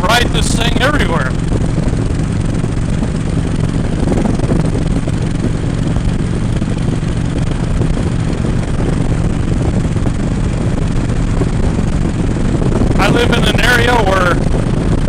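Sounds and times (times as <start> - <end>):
motorcycle engine running: 0.0 - 15.0
wind rushing past microphone: 0.0 - 15.0.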